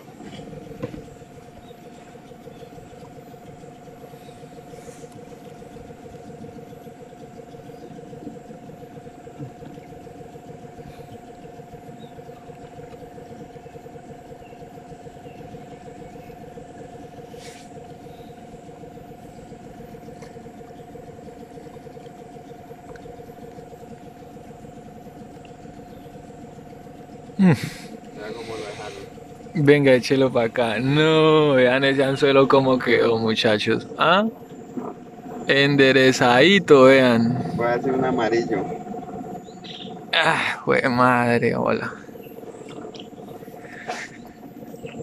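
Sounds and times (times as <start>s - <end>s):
motor running steadily: 0.0s - 45.0s.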